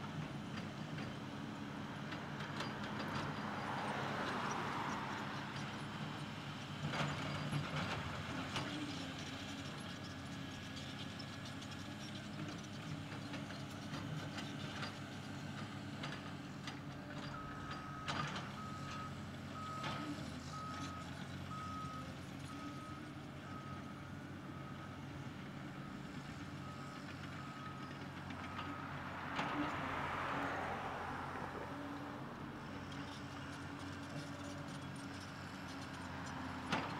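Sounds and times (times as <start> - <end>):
diesel engines running: 0.0 - 36.9.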